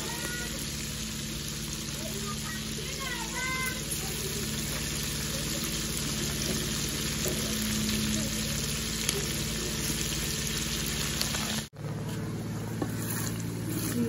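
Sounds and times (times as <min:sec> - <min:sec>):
chicken frying in hot oil: 0:00.0 - 0:11.7.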